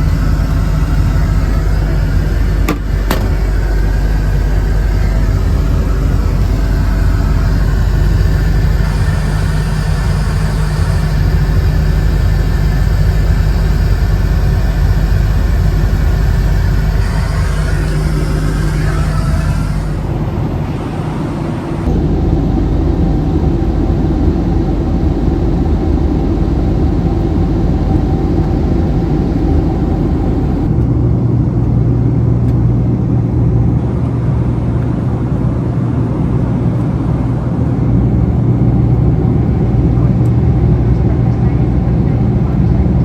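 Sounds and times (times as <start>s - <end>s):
airliner cabin rumble: 0.0s - 43.0s
low steady hum: 0.0s - 43.0s.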